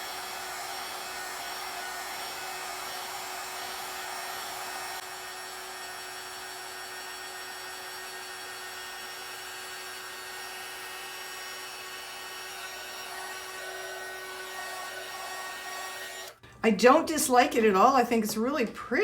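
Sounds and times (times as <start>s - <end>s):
heat gun blowing: 0.0s - 16.4s.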